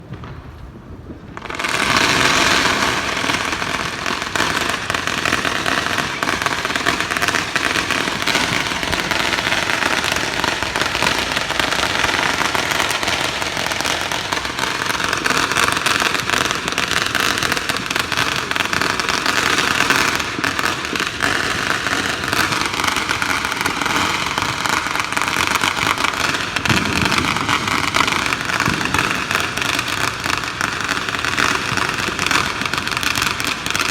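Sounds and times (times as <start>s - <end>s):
firecrackers going off: 0.0s - 33.9s.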